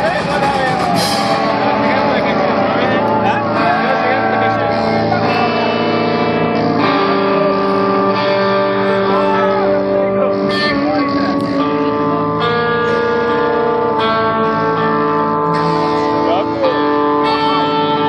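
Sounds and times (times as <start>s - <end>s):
guitars playing chords: 0.0s - 18.0s.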